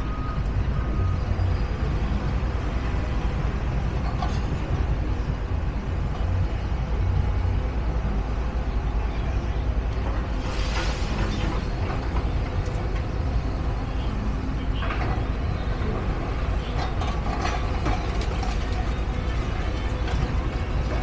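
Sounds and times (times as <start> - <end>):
low engine rumble: 0.0 - 21.0
street noise: 0.0 - 21.0.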